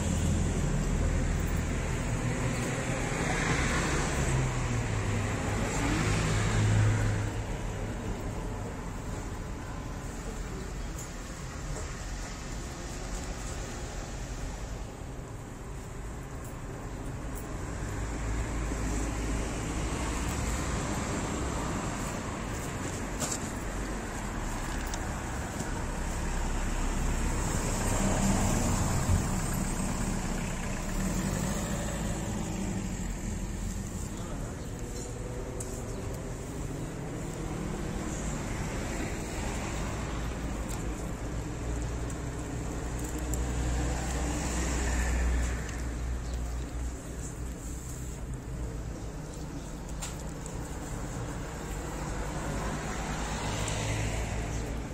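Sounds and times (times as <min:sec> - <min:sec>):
low rumble of road traffic: 0:00.0 - 0:54.9.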